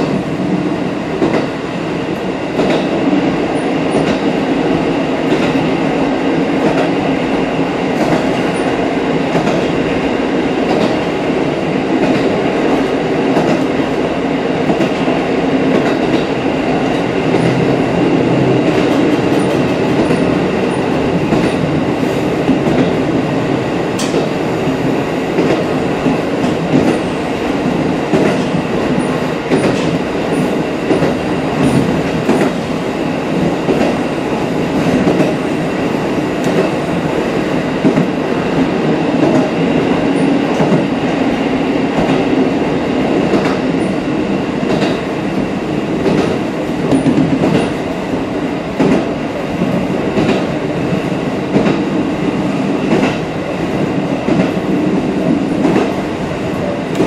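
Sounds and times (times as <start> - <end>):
railcar engine and wheels rumbling: 0.0 - 57.0.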